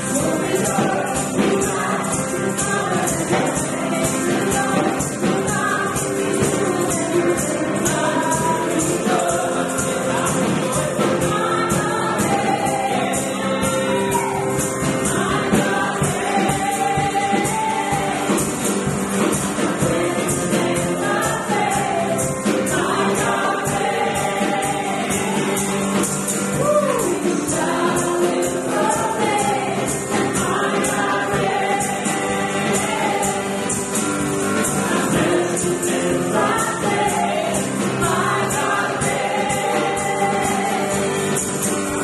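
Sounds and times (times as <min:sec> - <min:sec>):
group singing: 0:00.0 - 0:42.0
tambourine shaking: 0:00.0 - 0:42.0.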